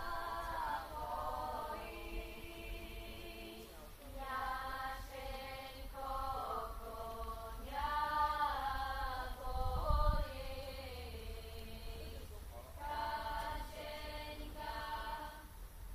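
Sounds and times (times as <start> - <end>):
women singing a cappella harmony: 0.0 - 15.9.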